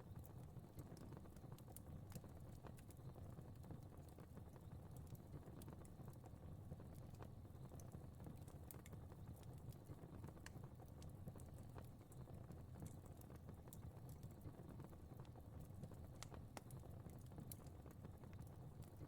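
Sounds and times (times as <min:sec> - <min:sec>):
fire crackling faintly: 0:00.0 - 0:19.0.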